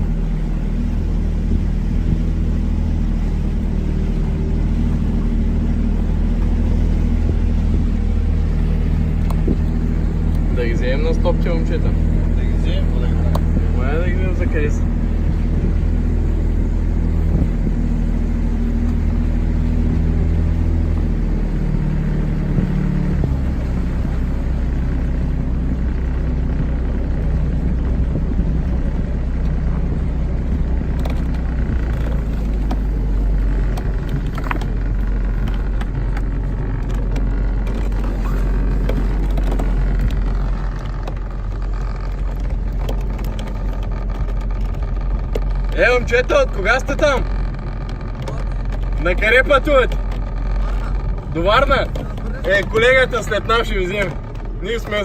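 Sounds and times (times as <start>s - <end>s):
speedboat engine droning: 0.0s - 55.0s.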